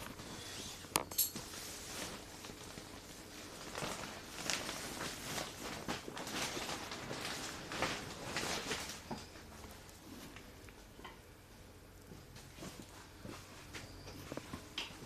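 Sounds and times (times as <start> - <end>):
scuffing and rustling: 0.0 - 10.6, 11.6 - 15.0.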